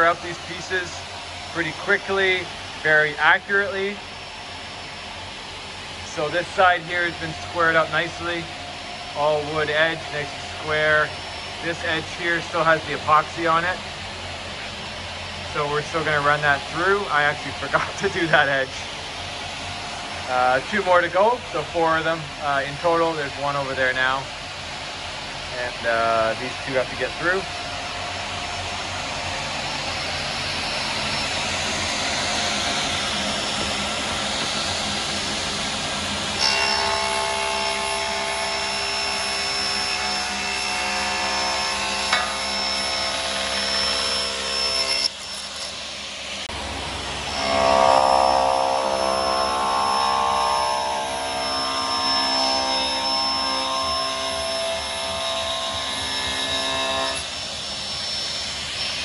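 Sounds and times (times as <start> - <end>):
table saw cutting wood: 0.0 - 24.2, 25.1 - 59.0.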